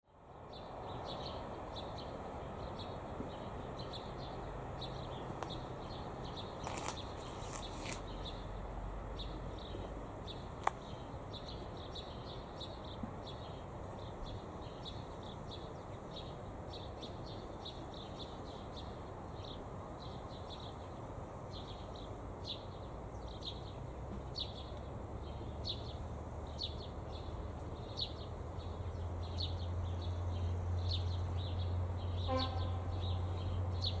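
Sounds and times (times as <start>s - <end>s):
steady background hiss: 0.1s - 34.0s.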